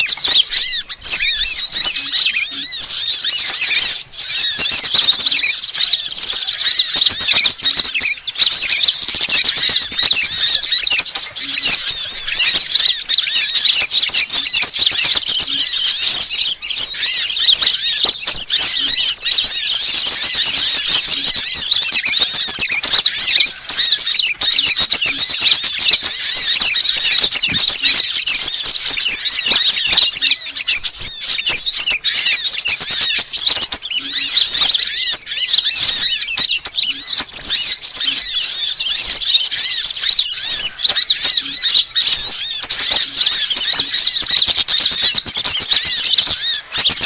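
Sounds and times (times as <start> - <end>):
small songbirds chirping: 0.0 - 47.0.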